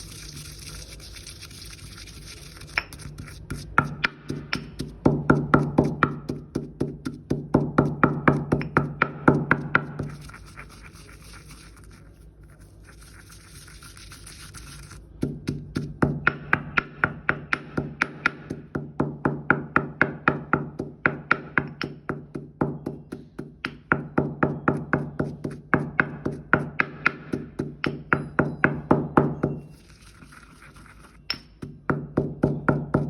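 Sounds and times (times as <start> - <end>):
pestle pounding in metal mortar: 0.0 - 11.2, 14.8 - 33.0.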